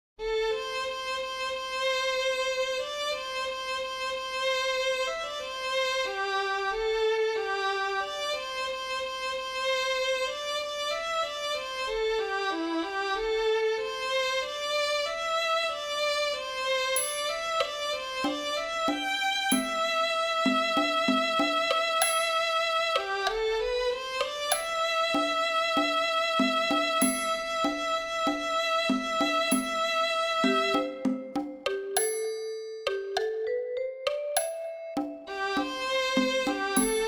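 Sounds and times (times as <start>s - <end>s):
violin-like synthesized melody: 0.2s - 32.0s, 33.5s - 37.0s.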